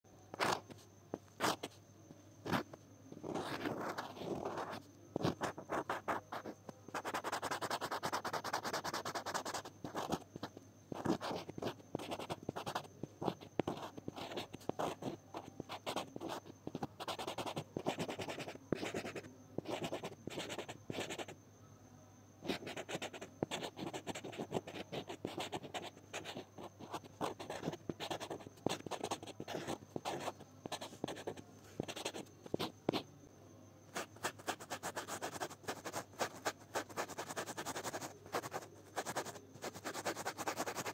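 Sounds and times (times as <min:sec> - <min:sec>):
pen nib scratching on paper: 0:00.3 - 0:01.8, 0:02.4 - 0:21.4, 0:22.4 - 0:33.1, 0:33.9 - 0:40.9.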